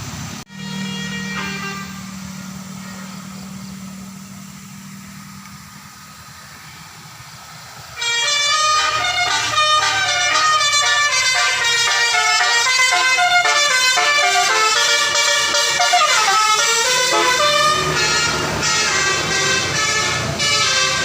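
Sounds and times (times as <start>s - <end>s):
melodic air horn tune: 0.5s - 4.3s, 8.0s - 21.0s.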